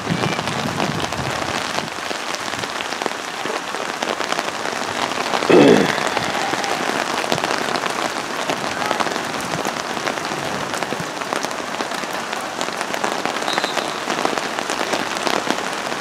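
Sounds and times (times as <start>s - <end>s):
rain falling: 0.0s - 16.0s
raindrops ticking close: 0.0s - 16.0s.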